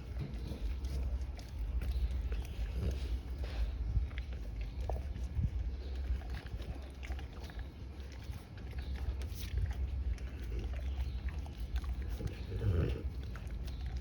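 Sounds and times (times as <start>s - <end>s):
dog crunching food: 0.0s - 14.0s.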